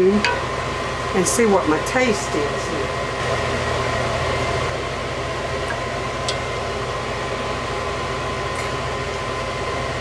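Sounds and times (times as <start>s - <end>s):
mechanical hum and hiss: 0.0s - 10.0s.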